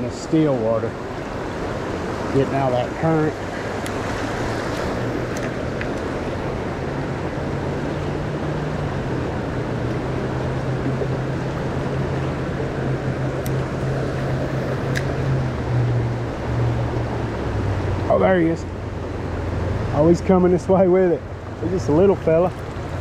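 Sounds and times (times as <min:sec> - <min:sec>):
river current rushing: 0:00.0 - 0:23.0.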